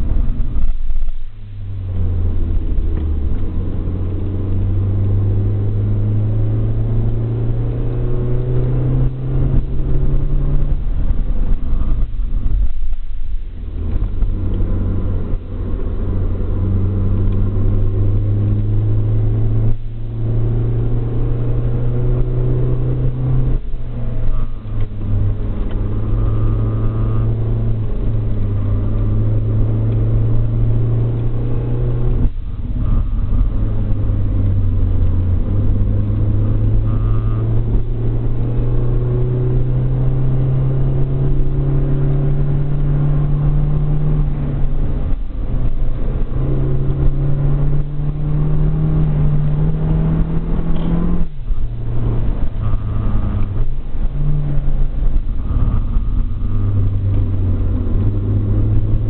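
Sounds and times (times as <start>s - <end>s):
car engine running from inside: 0.0s - 59.0s.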